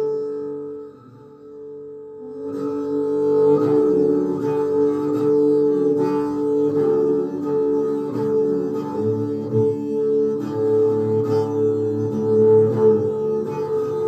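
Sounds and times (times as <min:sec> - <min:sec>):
bowed string instrument melody: 0:00.0 - 0:14.0.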